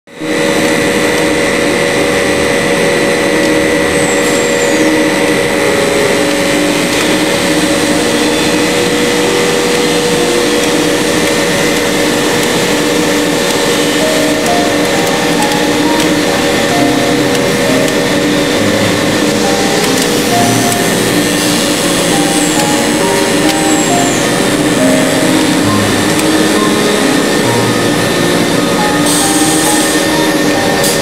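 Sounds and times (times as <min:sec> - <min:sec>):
high-pitched machine whine: 0:00.1 - 0:31.0
steady machine hums: 0:00.1 - 0:31.0
machinery mechanical din: 0:00.3 - 0:31.0.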